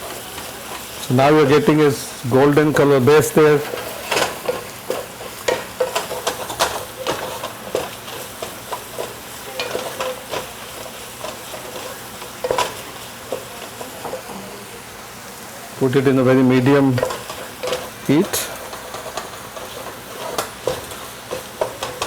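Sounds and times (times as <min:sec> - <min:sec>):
food sizzling in oil: 0:00.0 - 0:22.0
utensil scraping pan: 0:00.1 - 0:14.4, 0:15.8 - 0:22.0.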